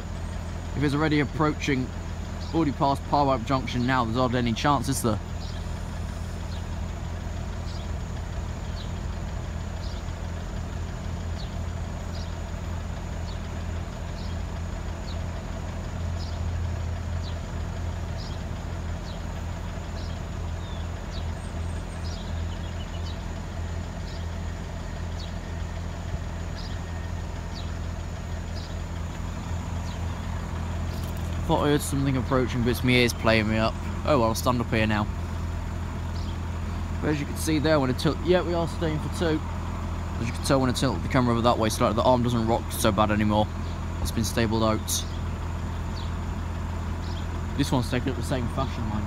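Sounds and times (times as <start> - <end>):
vehicle engines idling: 0.0 - 49.0.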